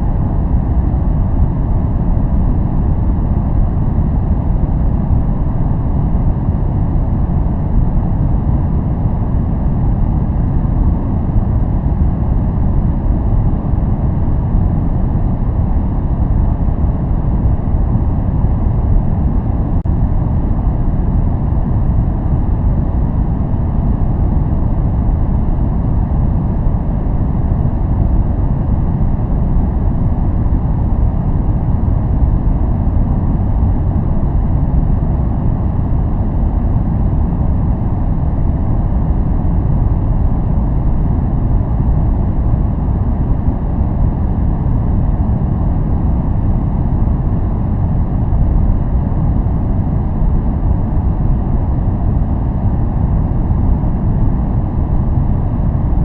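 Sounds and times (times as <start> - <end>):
deep bass-heavy noise: 0.0 - 56.0.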